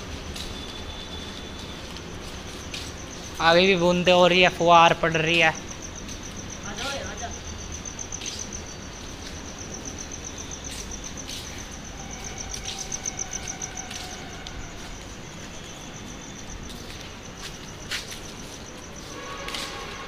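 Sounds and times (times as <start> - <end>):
cricket chirping: 0.0 - 20.0.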